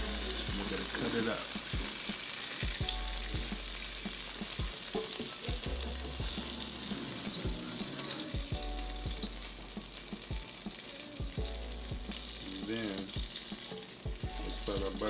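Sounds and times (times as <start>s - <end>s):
sausages sizzling in oil: 0.0s - 15.0s.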